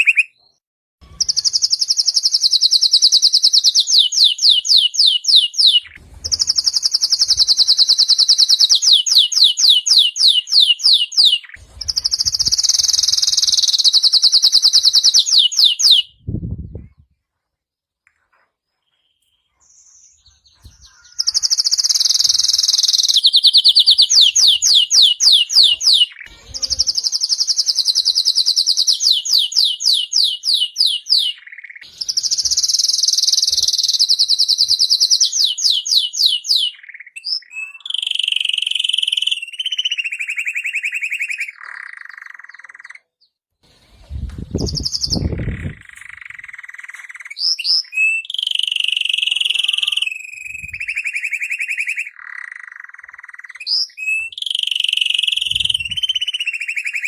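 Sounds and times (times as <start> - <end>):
canary singing: 0.0 - 16.2, 18.1 - 43.4, 44.5 - 57.0.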